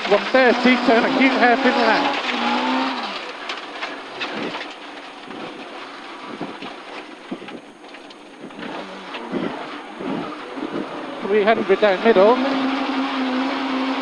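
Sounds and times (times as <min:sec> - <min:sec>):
car engine: 0:00.0 - 0:14.0
gravel rattling against car underside: 0:00.0 - 0:14.0.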